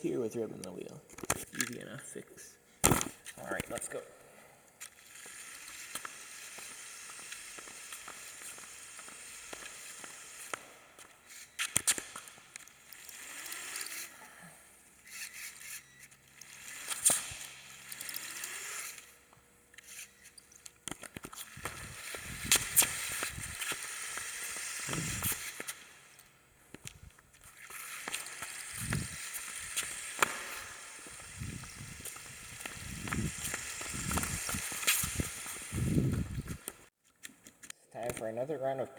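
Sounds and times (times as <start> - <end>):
toy car motor whirring: 4.8 - 36.9.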